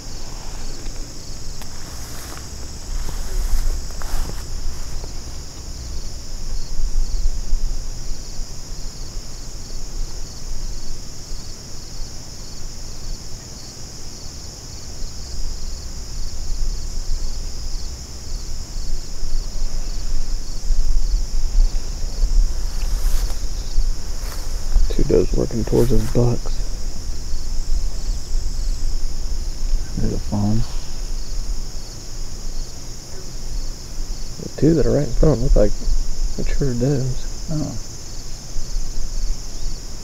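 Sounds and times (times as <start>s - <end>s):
crickets and insects chirping: 0.0s - 40.0s.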